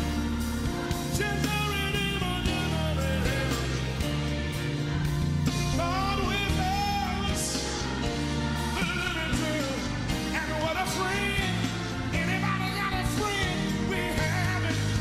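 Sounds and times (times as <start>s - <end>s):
band backing: 0.0s - 15.0s.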